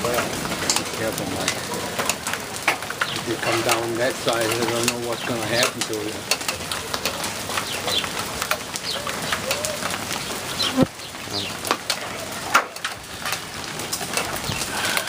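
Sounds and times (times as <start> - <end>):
hailstones striking with sharp cracks: 0.0 - 15.0
rain hissing: 0.0 - 15.0.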